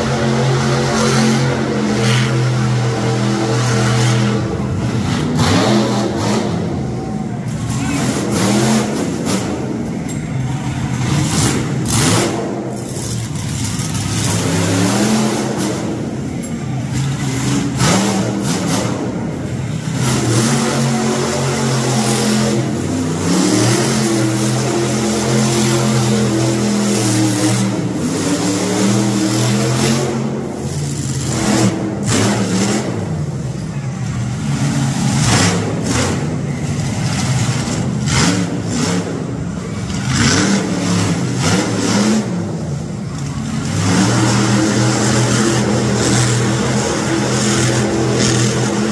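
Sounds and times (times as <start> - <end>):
truck engine revving hard: 0.0 - 33.6, 34.2 - 48.9.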